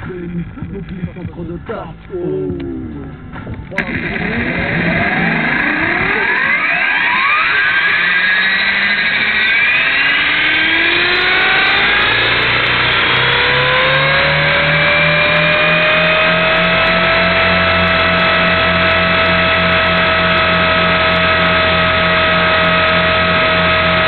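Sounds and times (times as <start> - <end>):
rc helicopter motor whine rising: 3.8 - 24.0.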